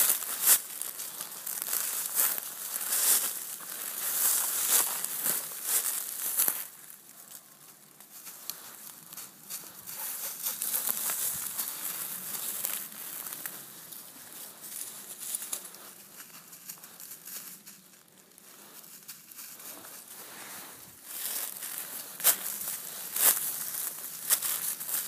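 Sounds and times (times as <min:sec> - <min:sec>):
footsteps crunching through dry leaves: 0:00.0 - 0:25.0.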